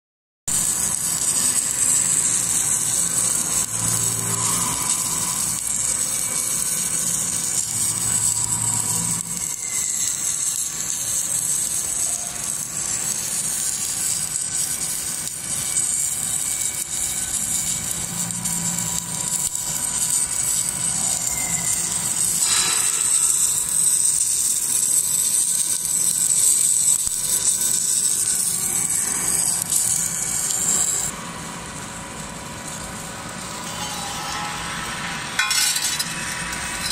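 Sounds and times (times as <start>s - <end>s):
welding hiss: 0.5s - 36.9s
welding machine running: 0.5s - 36.9s.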